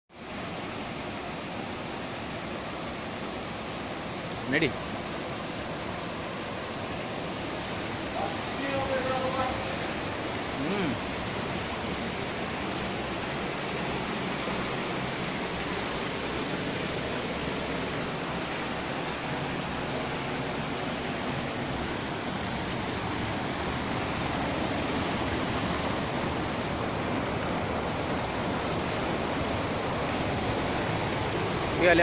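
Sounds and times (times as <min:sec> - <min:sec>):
floodwater rushing through culvert: 0:00.1 - 0:32.0.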